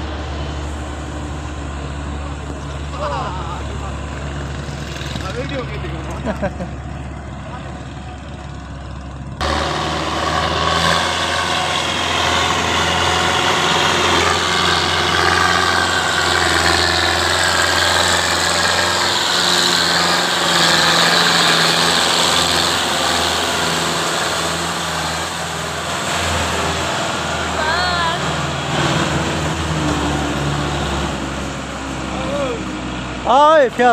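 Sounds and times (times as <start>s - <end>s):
tractor diesel engine: 0.0s - 33.9s.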